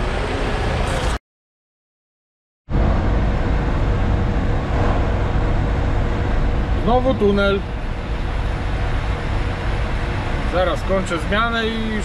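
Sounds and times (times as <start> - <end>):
truck engine and road rumble: 0.0 - 1.2, 2.7 - 12.0.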